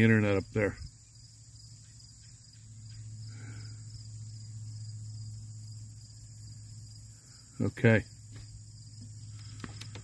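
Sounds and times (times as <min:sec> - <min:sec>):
insects chirping: 0:00.0 - 0:10.0
low steady hum: 0:00.0 - 0:10.0.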